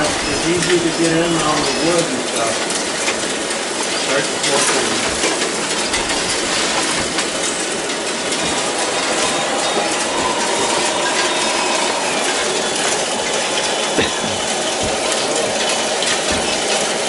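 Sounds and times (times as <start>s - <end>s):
toy loader gears clattering: 0.0s - 17.0s.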